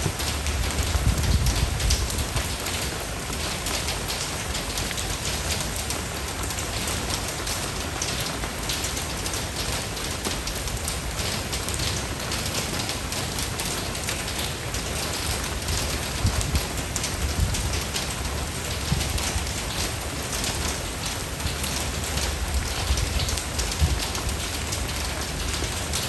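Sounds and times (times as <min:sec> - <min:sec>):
steady rain pattering: 0:00.0 - 0:26.0.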